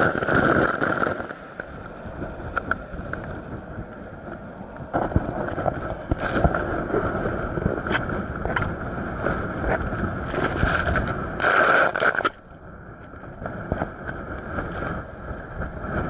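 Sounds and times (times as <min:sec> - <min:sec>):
rough sea rushing: 0:00.0 - 0:16.0
strong wind buffeting microphone: 0:00.0 - 0:16.0.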